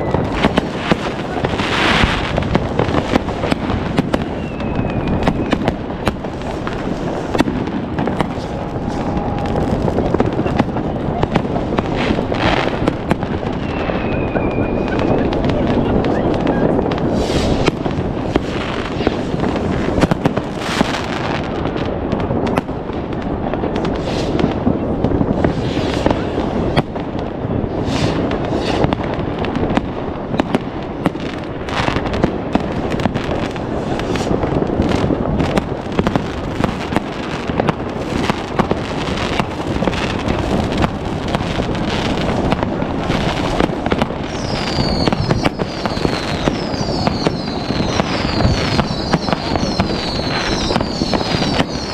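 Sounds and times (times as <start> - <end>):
whistling fireworks falling in pitch: 0.0 - 21.8, 22.4 - 51.9
fireworks crackling and rumbling: 0.0 - 51.9
sharp firework bangs: 0.0 - 51.9.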